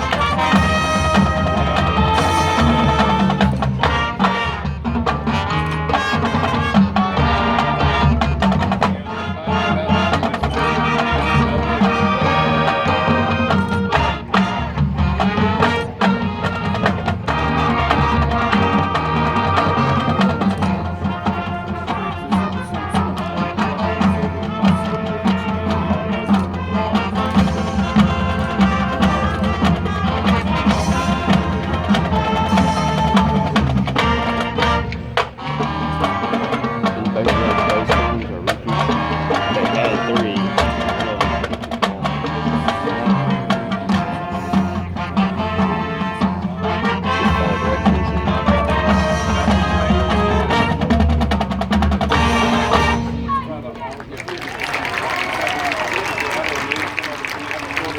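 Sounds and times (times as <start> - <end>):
drum and percussion strikes: 0.0 - 53.5
marching band playing: 0.0 - 57.9
wind and brass chords: 0.0 - 57.9.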